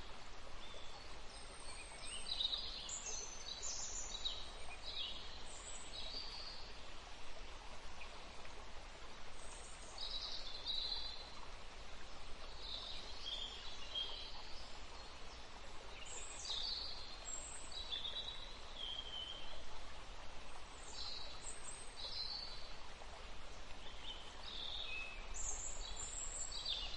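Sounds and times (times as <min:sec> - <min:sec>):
background hiss: 0:00.0 - 0:26.9
songbirds chirping: 0:00.0 - 0:26.9.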